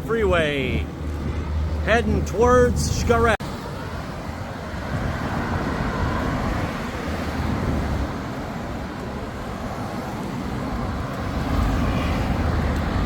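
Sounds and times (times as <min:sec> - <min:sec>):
freeway traffic rumble: 0:00.0 - 0:13.0.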